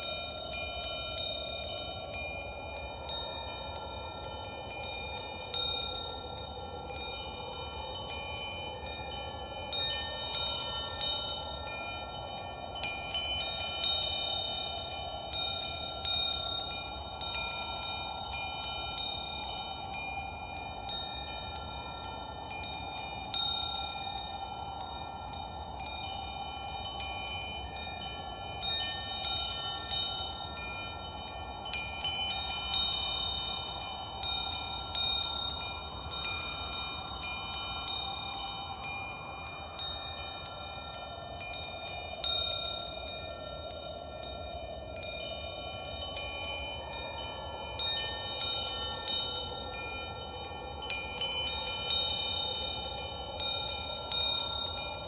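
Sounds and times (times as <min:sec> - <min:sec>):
wind chimes ringing: 0:00.0 - 0:55.0.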